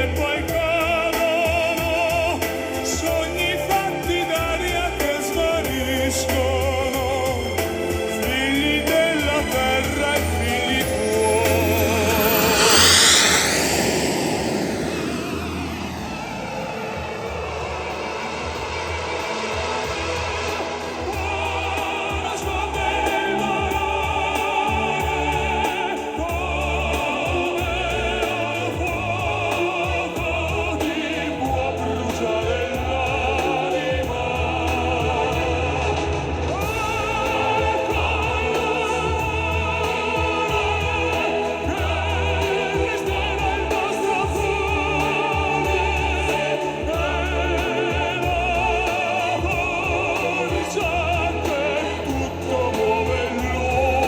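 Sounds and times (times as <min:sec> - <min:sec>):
instrumental backing with bass: 0:00.0 - 0:54.0
operatic voice singing: 0:00.0 - 0:54.0.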